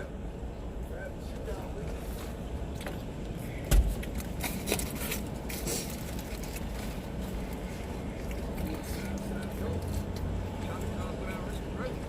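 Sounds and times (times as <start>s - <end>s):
low car rumble: 0.0s - 12.0s.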